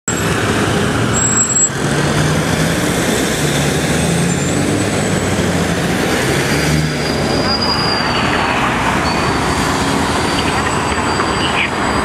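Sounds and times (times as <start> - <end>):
large vehicle engine humming: 0.1 - 12.0
street traffic: 0.1 - 12.0.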